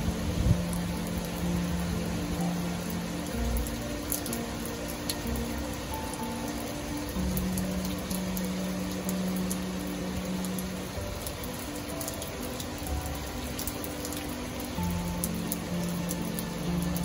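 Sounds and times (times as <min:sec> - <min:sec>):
heavy rain falling: 0:00.0 - 0:17.0
soft background music: 0:00.0 - 0:17.0.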